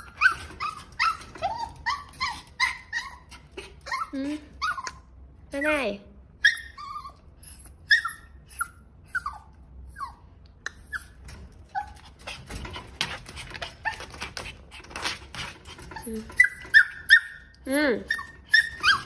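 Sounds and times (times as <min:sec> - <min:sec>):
dog whining: 0:00.0 - 0:12.6, 0:15.8 - 0:19.0.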